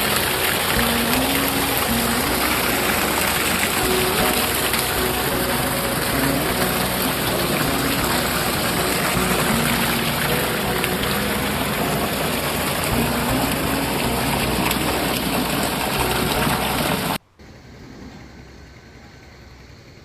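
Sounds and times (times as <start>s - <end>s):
water gushing: 0.0s - 17.2s.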